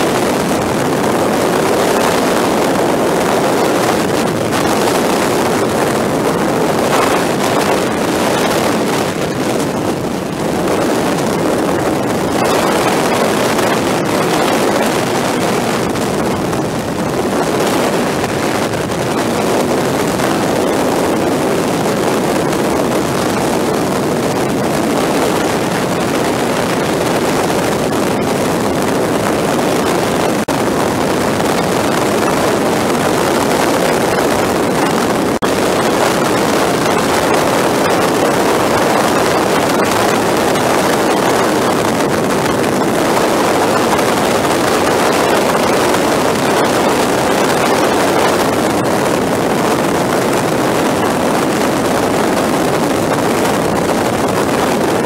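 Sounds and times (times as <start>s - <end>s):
motorcycle engine: 0.0s - 55.0s
road noise: 0.0s - 55.0s
wind rush over microphone: 0.0s - 55.0s.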